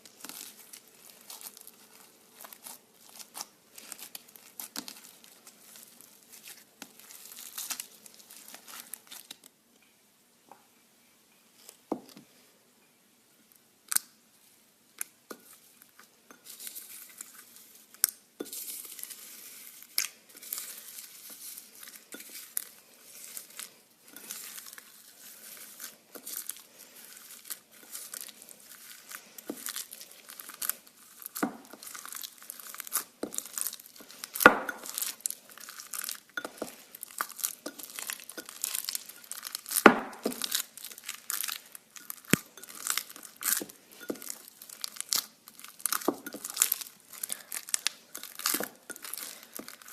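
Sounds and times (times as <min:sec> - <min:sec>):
slime squished and crackling: 0:00.0 - 0:09.5, 0:16.5 - 0:49.9.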